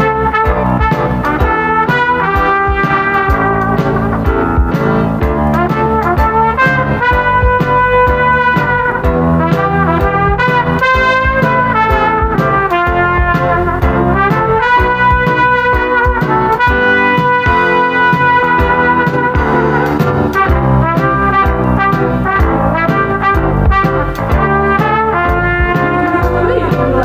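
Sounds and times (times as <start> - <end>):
brass melody: 0.0 - 27.0
steady drum beat: 0.0 - 27.0.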